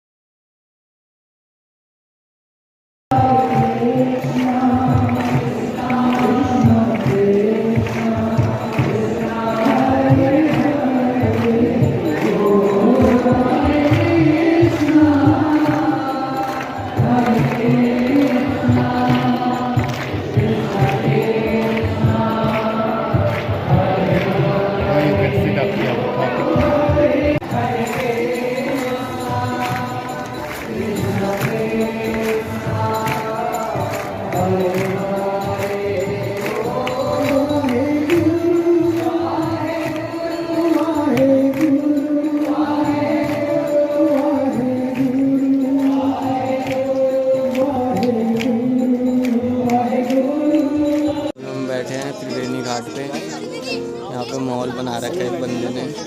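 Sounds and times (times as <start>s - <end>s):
voices singing chant-like: 3.1s - 56.0s.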